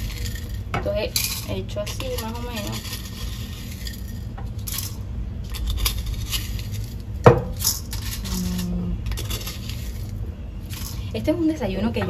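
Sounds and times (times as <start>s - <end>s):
granola rattling into ceramic bowl: 0.0s - 11.1s.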